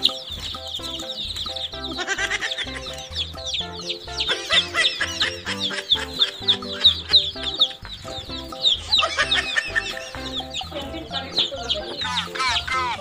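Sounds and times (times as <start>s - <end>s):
background music with steady beat: 0.0s - 13.0s
chicks peeping: 0.0s - 13.0s.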